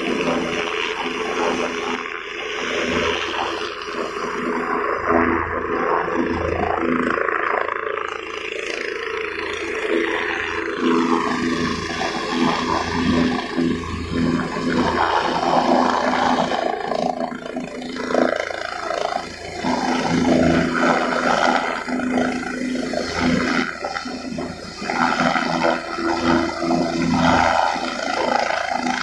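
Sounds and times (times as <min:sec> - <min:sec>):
helicopter hovering: 0:00.0 - 0:29.0.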